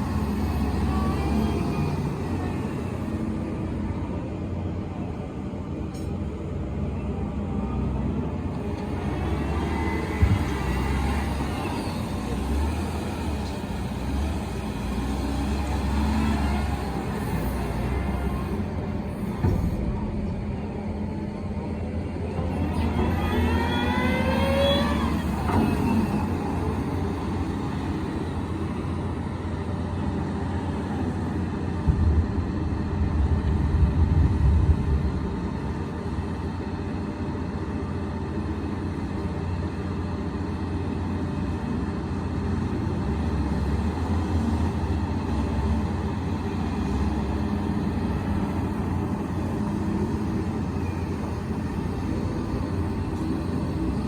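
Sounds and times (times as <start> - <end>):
heavy engine rumbling: 0.0 - 54.0.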